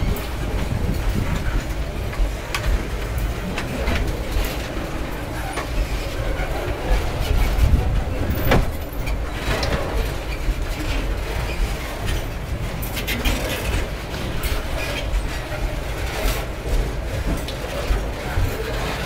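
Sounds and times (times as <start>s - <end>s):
cars clanking and rattling: 0.0s - 19.0s
freight train wheels rumbling: 0.0s - 19.0s.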